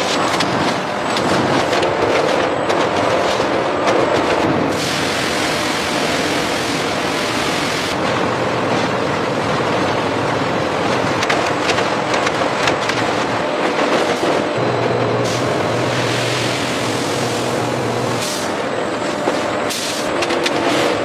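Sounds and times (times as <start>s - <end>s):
factory machinery hissing: 0.0s - 9.6s, 13.4s - 21.0s
machinery clicks and clatter: 0.0s - 21.0s.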